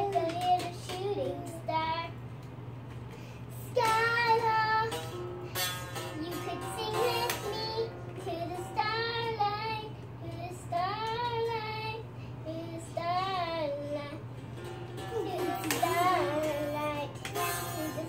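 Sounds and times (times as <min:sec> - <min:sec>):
girl singing: 0:00.0 - 0:02.3, 0:03.5 - 0:18.0.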